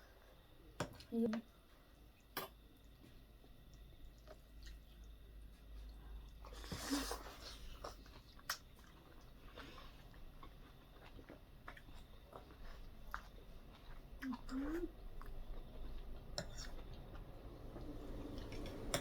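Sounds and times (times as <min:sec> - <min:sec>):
wet chewing sounds: 0:01.9 - 0:19.0.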